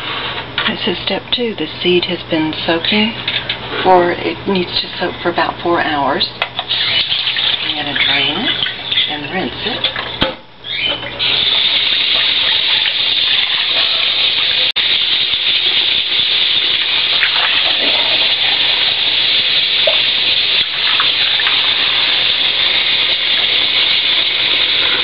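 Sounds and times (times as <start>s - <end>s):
kitchen tap running: 0.7s - 3.6s, 4.2s - 25.0s.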